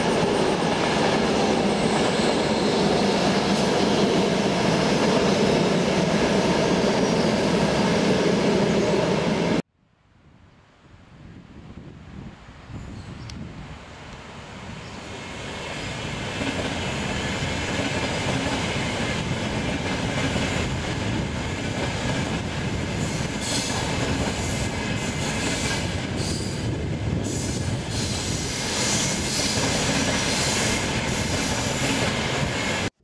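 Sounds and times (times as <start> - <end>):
train wheels rumbling on rails: 0.0 - 9.6, 14.2 - 33.0.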